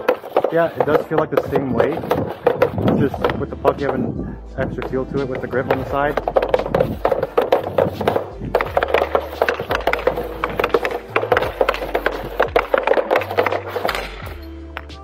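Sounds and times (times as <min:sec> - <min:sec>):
hockey stick clacking puck: 0:00.0 - 0:15.0.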